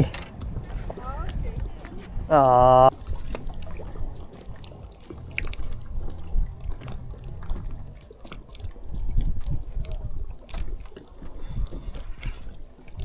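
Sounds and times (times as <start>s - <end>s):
low rumble: 0.0s - 12.5s
water splashing and sloshing: 0.0s - 13.0s.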